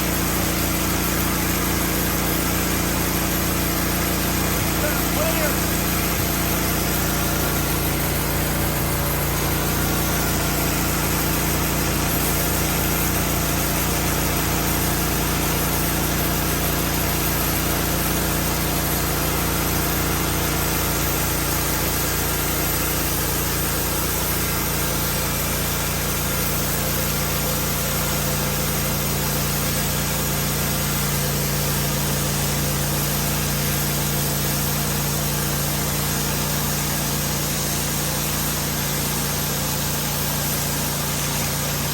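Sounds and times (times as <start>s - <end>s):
sawmill engine running: 0.0s - 41.9s.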